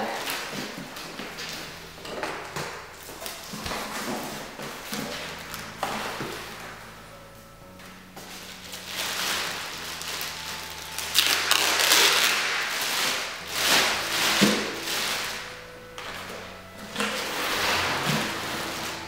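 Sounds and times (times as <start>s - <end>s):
plastic bag crinkling: 0.0s - 7.4s, 8.2s - 19.0s.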